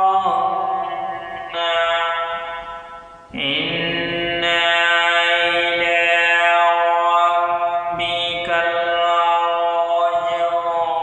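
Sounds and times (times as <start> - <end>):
person chanting recitation: 0.0 - 11.0.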